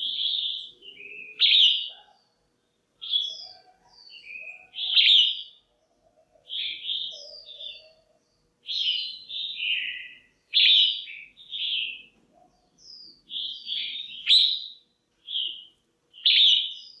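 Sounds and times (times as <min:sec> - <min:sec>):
bulbul chattering calls: 0:00.0 - 0:02.3, 0:03.0 - 0:17.0.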